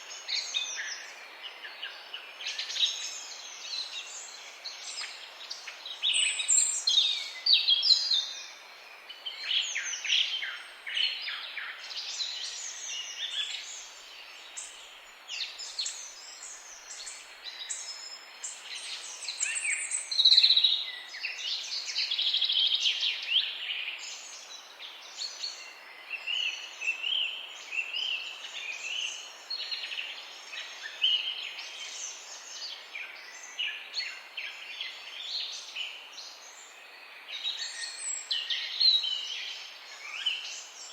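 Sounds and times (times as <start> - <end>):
songbirds chirping and singing: 0.0 - 40.9
steady background hiss: 0.0 - 40.9.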